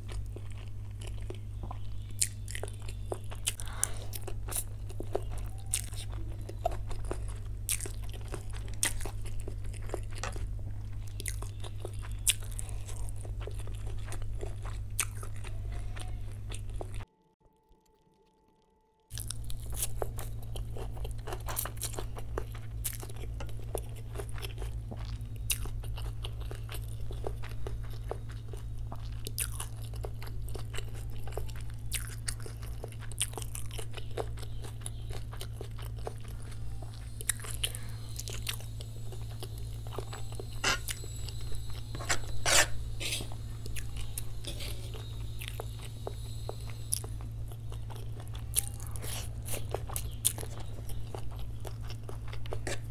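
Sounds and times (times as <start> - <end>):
chewing with wet mouth clicks: 0.0 - 52.9
steady low hum: 0.0 - 52.9.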